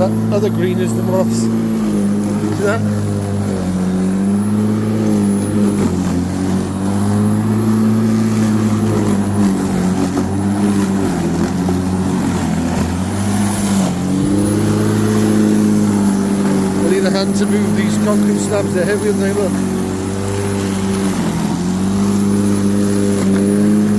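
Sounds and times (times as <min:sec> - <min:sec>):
electric lawnmower cutting grass: 0:00.0 - 0:23.9.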